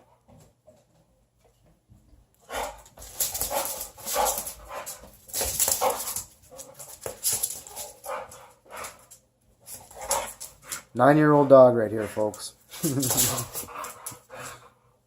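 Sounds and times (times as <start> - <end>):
dog scuffling: 2.4 - 14.7.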